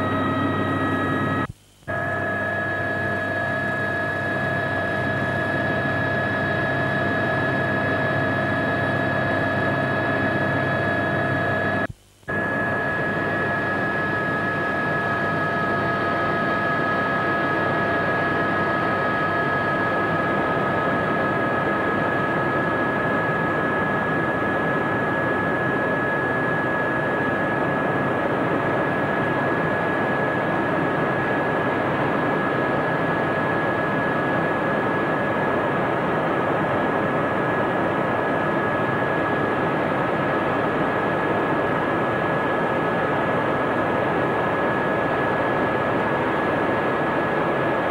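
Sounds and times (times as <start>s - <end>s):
helicopter engine whine: 0.0s - 47.9s.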